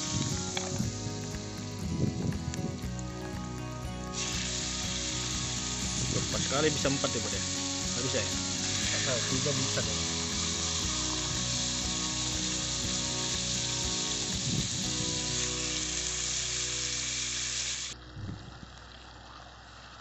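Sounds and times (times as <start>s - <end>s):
steaks sizzling in hot oil: 0.0s - 19.0s.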